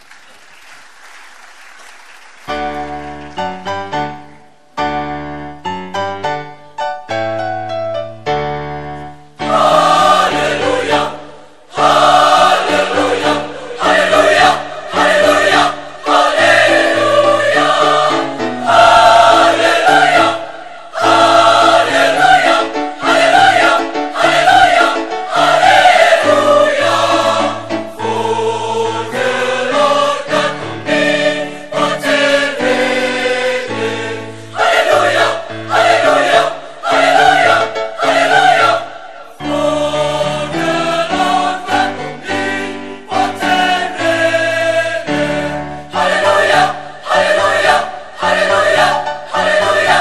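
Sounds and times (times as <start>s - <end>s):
choir singing: 9.4s - 50.0s.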